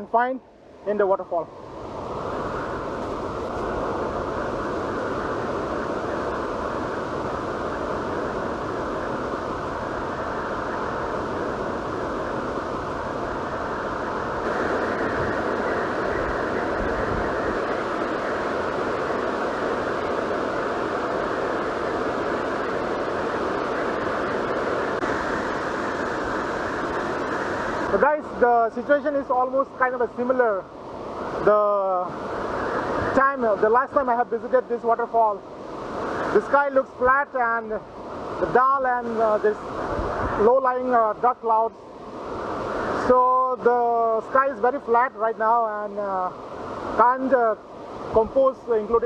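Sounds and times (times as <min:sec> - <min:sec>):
waterfall roaring: 0:00.9 - 0:49.0.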